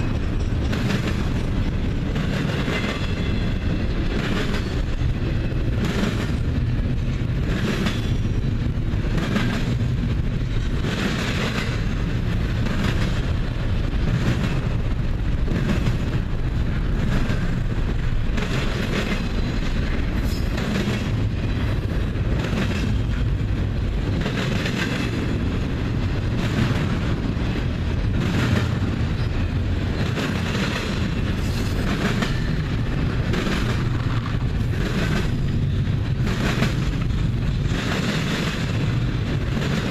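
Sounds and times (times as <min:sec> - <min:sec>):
train wheels rumbling on rail: 0:00.0 - 0:39.9
wheels clacking on rail joints: 0:00.0 - 0:39.9.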